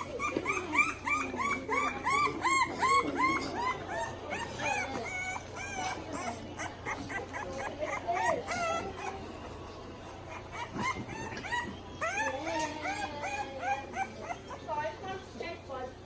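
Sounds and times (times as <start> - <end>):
puppies whining and yipping: 0.0 - 15.0.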